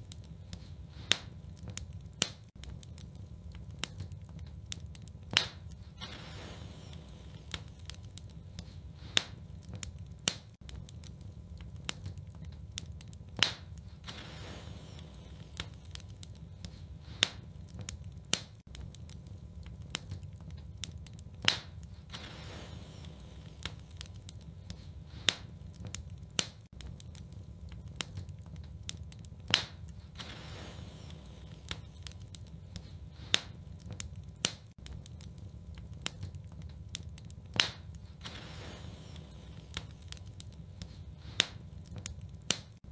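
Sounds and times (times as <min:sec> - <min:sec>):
low steady fire rumble: 0:00.0 - 0:42.9
wood fire crackling and popping: 0:00.0 - 0:42.9.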